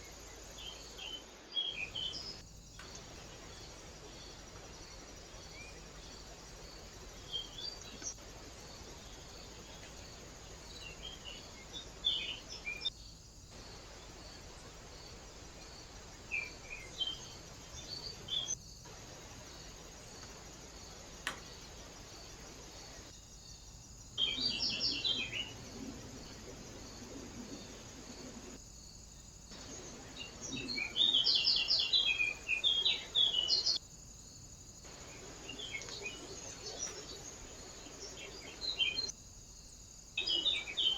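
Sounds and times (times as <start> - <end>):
small birds chirping: 0.0 - 33.8, 34.8 - 40.9
faint steady hiss: 0.0 - 40.9.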